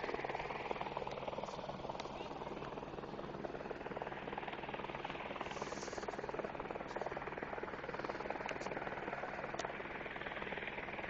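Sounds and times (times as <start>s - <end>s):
helicopter rotor beating: 0.0s - 11.0s.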